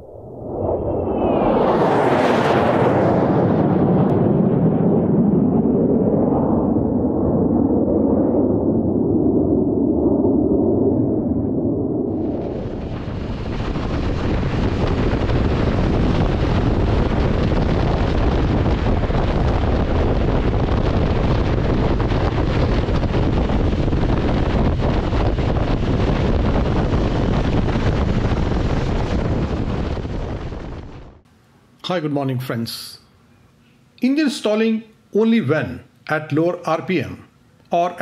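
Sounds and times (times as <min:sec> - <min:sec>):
wind buffeting microphone: 0:00.0 - 0:31.3.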